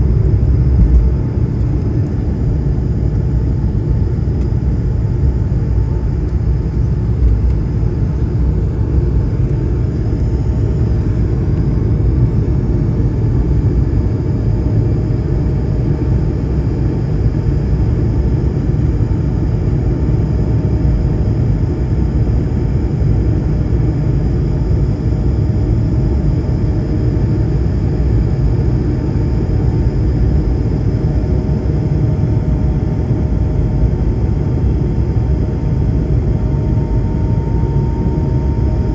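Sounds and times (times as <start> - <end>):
faint whining tones: 0.0 - 17.3, 21.8 - 38.9
jet engines rumbling in cabin: 0.0 - 38.9.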